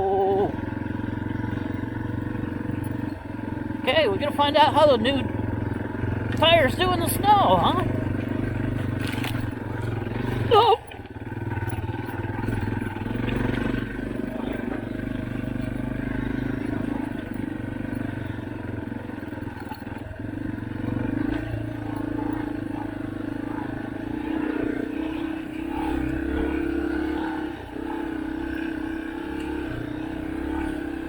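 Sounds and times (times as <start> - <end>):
dirt bike engine running: 0.0 - 31.0.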